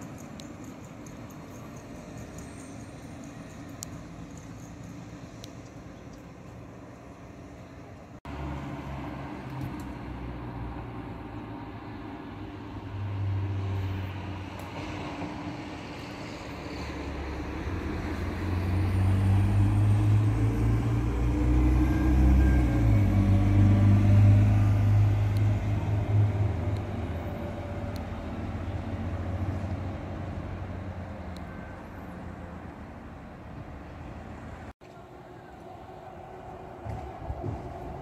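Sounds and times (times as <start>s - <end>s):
bus engine drone passing: 0.0s - 38.0s.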